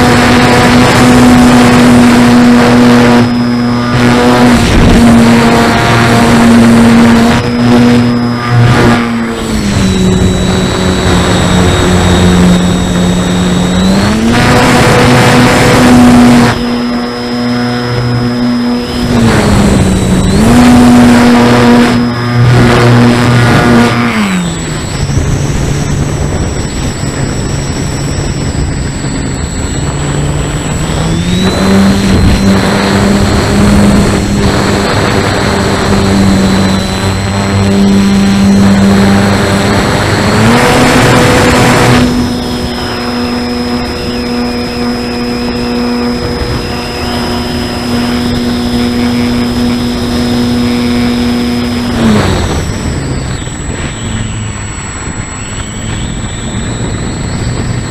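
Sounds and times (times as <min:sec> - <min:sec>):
model plane motor droning whine: 0:00.0 - 0:57.9
wind rushing over microphone: 0:00.0 - 0:57.9.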